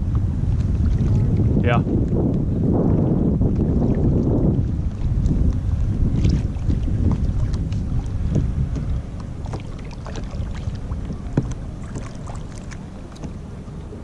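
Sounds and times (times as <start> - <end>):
paddle splashes and drips: 0.0 - 2.2, 3.4 - 14.0
wind rumbling on microphone: 0.0 - 14.0.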